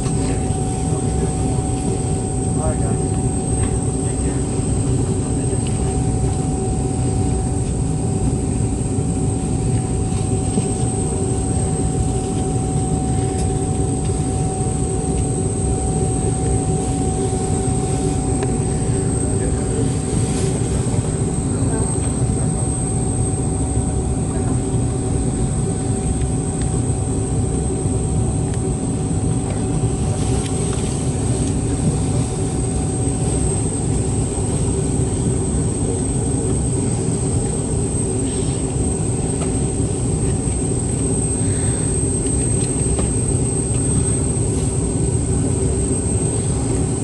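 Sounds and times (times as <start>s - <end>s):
high engine whine: 0.0s - 47.0s
jet engine idling drone: 0.0s - 47.0s.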